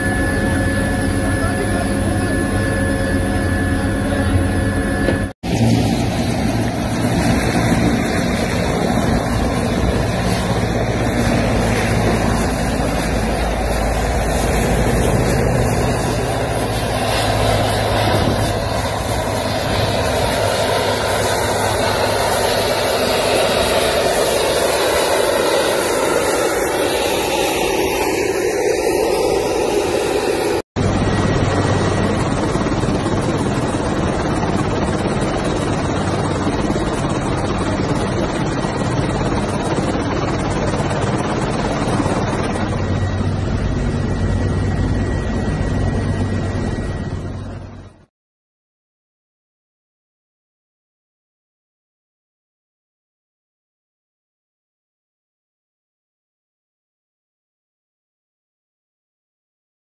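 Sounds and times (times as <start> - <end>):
helicopter engines and rotor: 0.0 - 48.1.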